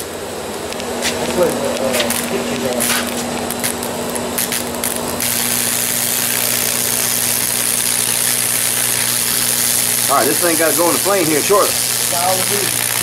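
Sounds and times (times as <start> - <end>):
electric arc buzzing hiss: 0.0 - 13.0
electric arc crackling snaps: 0.0 - 13.0
transformer hum: 0.0 - 13.0.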